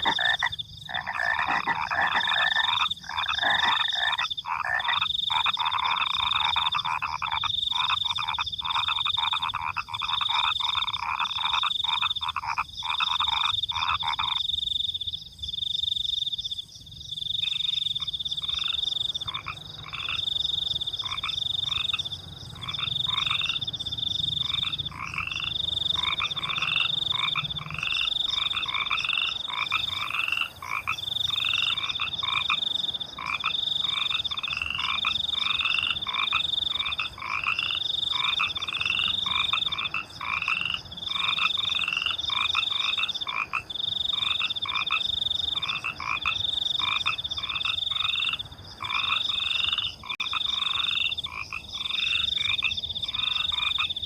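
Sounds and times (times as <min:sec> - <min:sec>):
cricket trill: 0:00.0 - 0:54.0
frogs croaking: 0:00.0 - 0:54.0.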